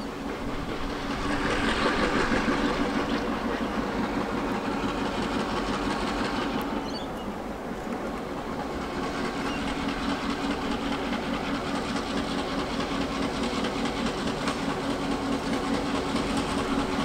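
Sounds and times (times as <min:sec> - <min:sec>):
diesel locomotive engine drone: 0:00.0 - 0:17.0
train rail noise: 0:00.0 - 0:17.0.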